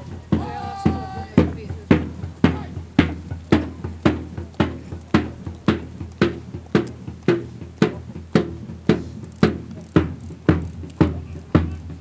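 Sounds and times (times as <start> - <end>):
bass drum beating march time: 0.0 - 12.0.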